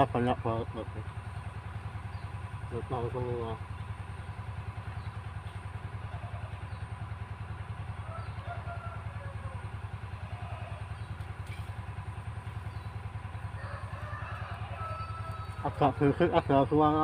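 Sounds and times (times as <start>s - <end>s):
diesel water pump engine throbbing: 0.0s - 17.0s.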